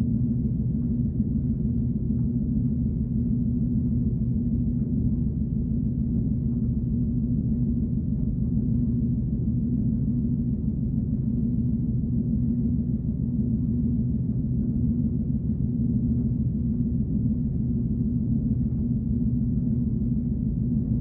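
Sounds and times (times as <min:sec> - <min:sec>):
low droning synth hum: 0:00.0 - 0:21.0.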